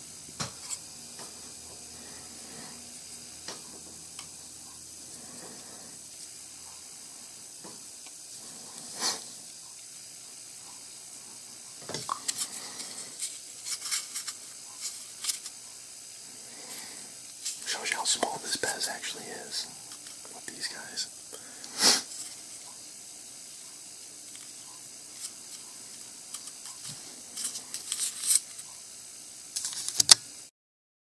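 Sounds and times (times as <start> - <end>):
steady background hiss: 0.0 - 30.5.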